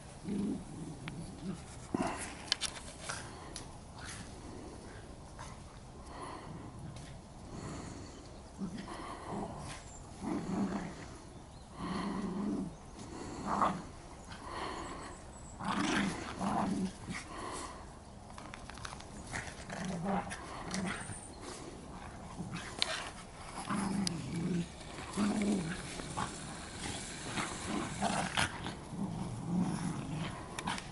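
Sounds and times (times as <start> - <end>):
dogs play growling: 0.2 - 30.9.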